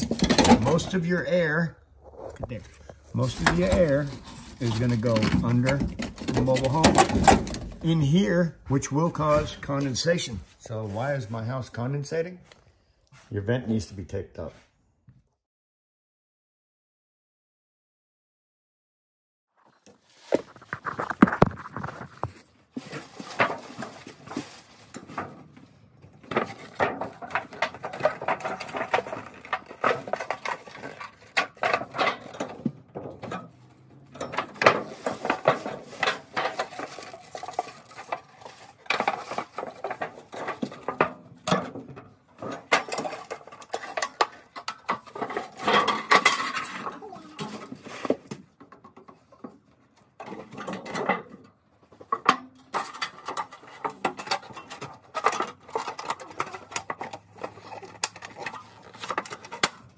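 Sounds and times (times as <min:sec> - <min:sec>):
sheet metal clattering and crinkling: 0:00.0 - 0:08.2, 0:19.6 - 0:59.9.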